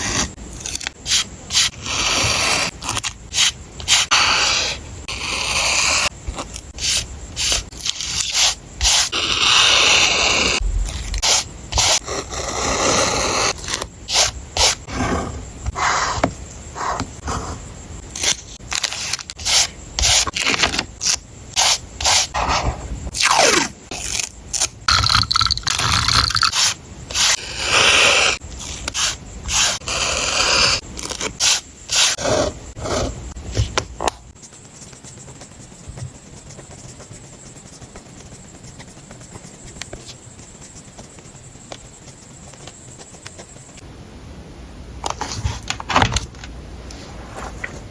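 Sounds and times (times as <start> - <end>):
scraping and rubbing on paper: 0.0 - 17.6, 18.2 - 24.7, 25.8 - 43.8.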